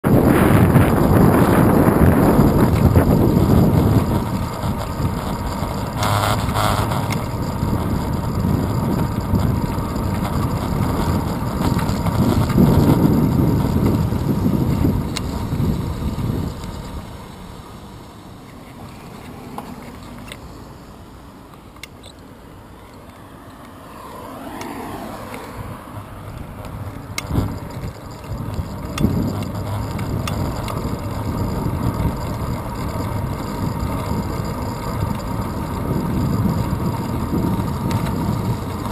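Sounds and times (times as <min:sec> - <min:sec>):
wind buffeting camera: 0:00.0 - 0:17.4, 0:23.0 - 0:38.9
road rumble: 0:00.0 - 0:38.9.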